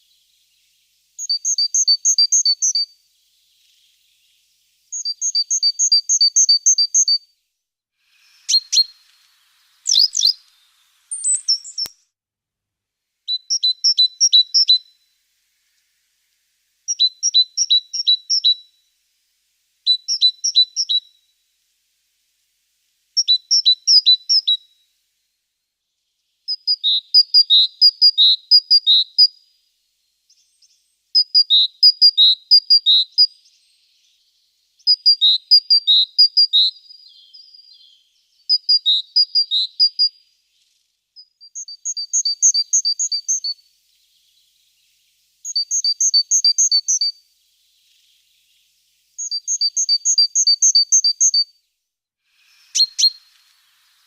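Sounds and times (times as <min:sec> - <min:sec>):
small bird chirping: 0:00.0 - 0:07.4, 0:08.0 - 0:12.2, 0:13.2 - 0:18.9, 0:19.8 - 0:25.1, 0:25.7 - 0:54.0.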